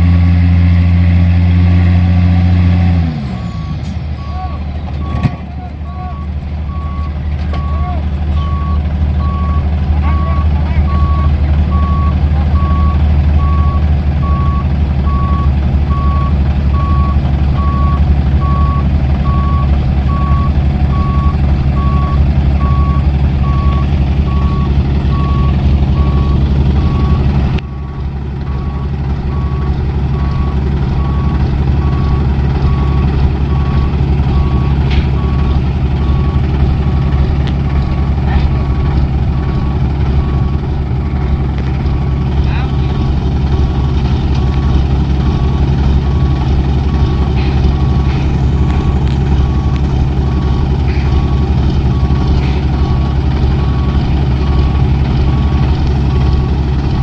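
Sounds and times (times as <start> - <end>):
diesel truck engine running: 0.0 - 57.0
reversing alarm beeping: 2.3 - 40.7, 43.8 - 57.0.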